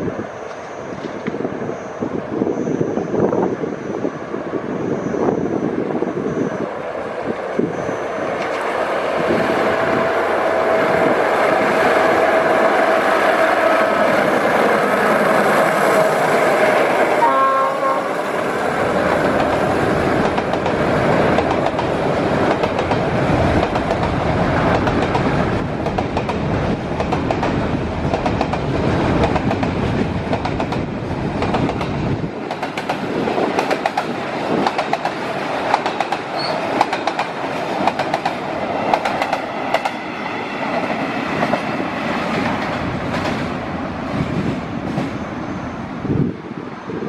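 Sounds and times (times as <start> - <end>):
deep train rumble: 0.0 - 47.0
train wheels clicking on rail joints: 6.6 - 45.2.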